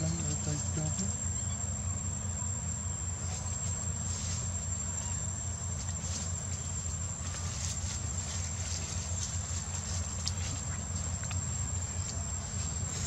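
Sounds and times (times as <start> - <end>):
high-pitched insect drone: 0.0 - 13.0
low steady rumble: 0.0 - 13.0.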